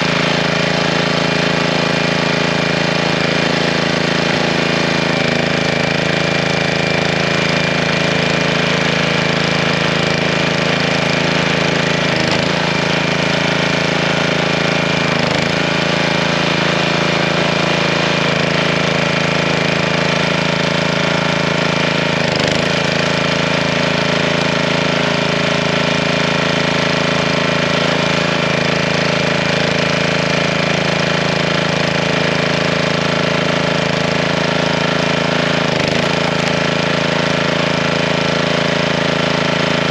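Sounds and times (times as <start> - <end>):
log splitter engine running: 0.0 - 39.9.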